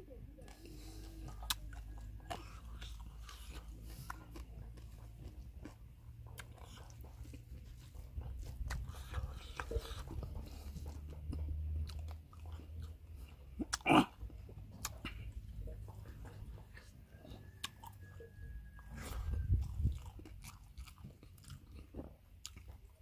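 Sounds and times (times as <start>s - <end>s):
low steady hum: 0.0s - 23.0s
chewing and biting food: 0.2s - 23.0s.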